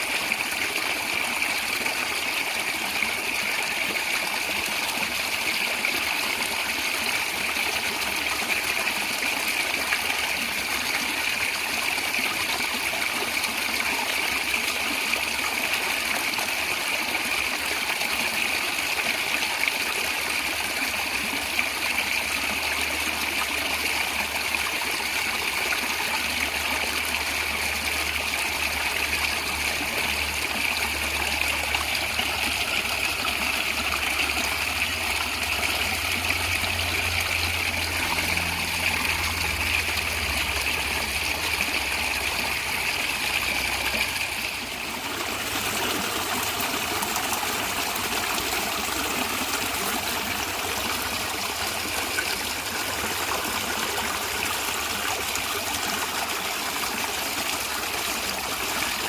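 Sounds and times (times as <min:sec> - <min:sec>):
stream gurgling over rocks: 0:00.0 - 0:59.0.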